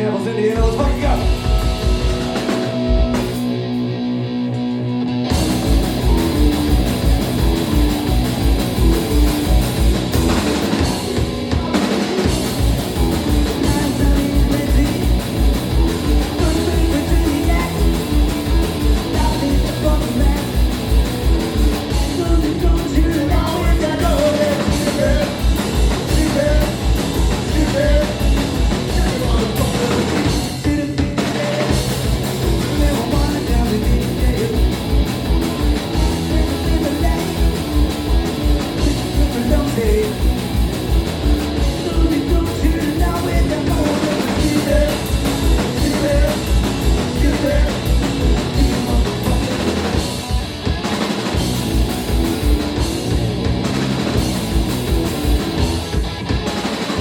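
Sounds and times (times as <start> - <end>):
punk rock band playing: 0.0 - 57.0.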